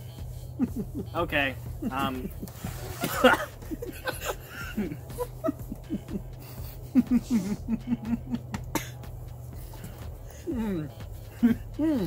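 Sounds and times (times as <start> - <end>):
stifled laughter hums: 0.4 - 1.1, 1.8 - 9.0, 9.8 - 12.0.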